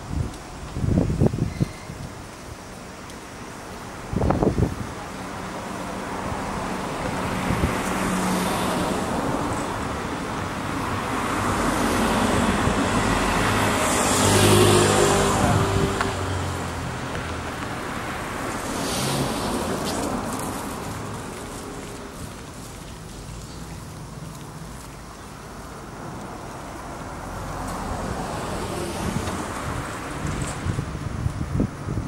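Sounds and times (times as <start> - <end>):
cars driving past: 4.2 - 32.0.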